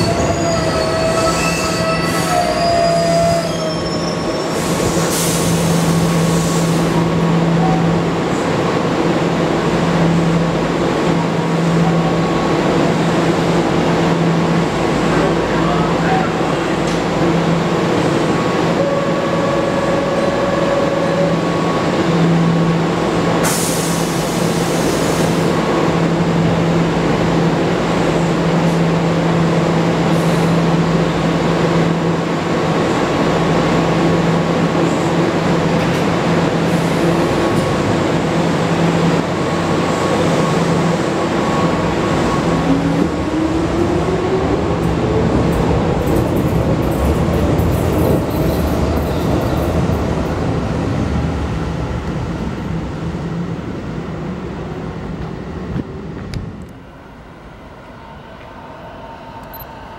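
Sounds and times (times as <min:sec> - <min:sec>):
train equipment humming: 0:04.5 - 0:59.9.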